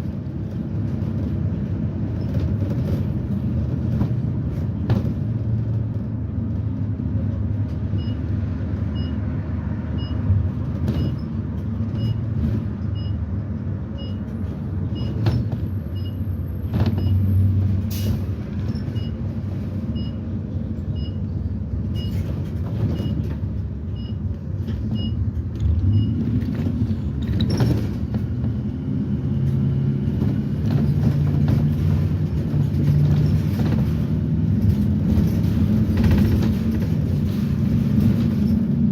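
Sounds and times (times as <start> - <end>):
bus engine running: 0.0 - 38.9
road rumble: 0.0 - 38.9.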